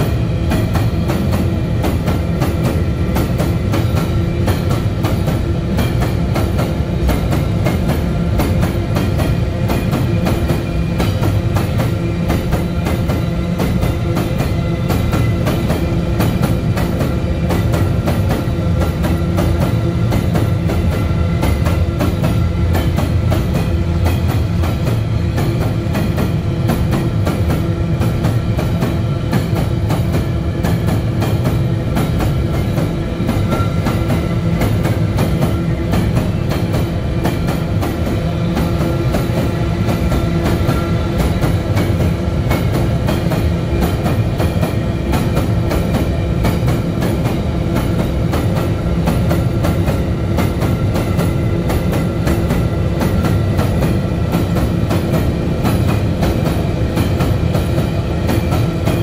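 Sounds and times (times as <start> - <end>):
train wagons rumbling past: 0.0 - 59.0.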